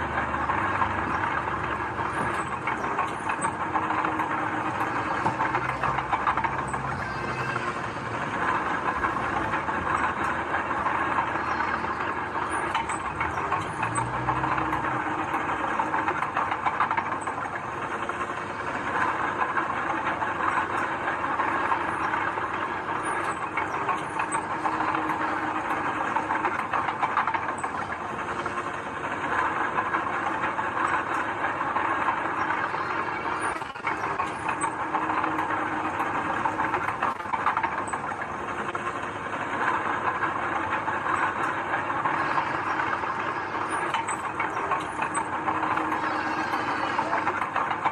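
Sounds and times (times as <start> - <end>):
diesel machinery running: 0.0 - 47.9
metallic clatter: 0.0 - 47.9.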